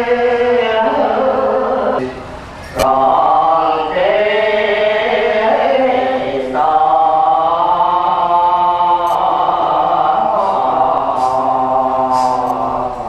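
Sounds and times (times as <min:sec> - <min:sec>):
devotional chanting: 0:00.0 - 0:13.0.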